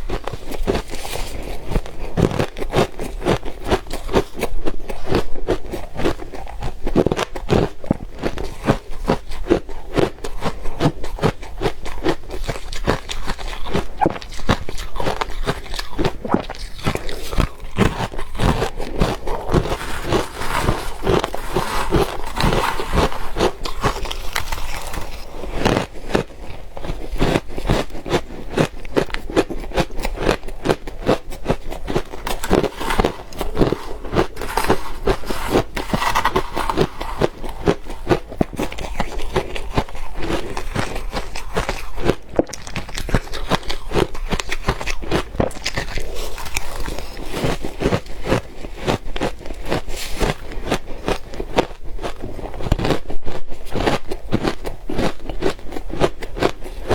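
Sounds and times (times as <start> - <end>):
person chewing crunchy ice: 0.0 - 56.9.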